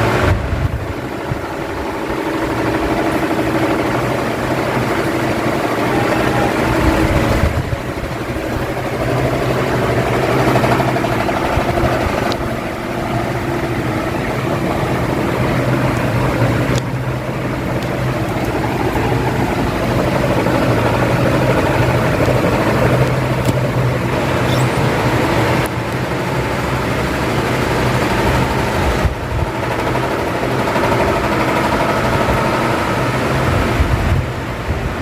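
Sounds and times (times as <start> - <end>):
electric fan running: 0.0 - 35.0.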